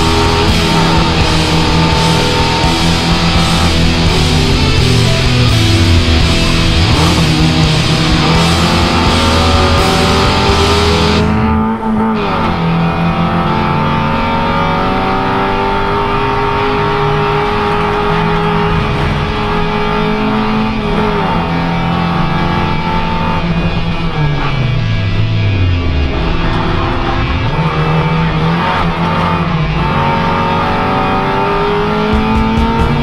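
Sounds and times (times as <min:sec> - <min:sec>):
race car engine revving: 0:00.0 - 0:33.0
rock music with electric guitar: 0:00.0 - 0:33.0.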